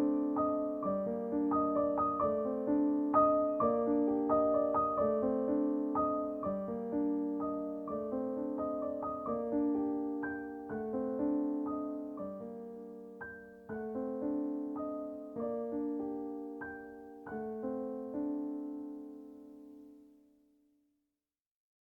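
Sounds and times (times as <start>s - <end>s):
soft piano music: 0.0s - 20.4s.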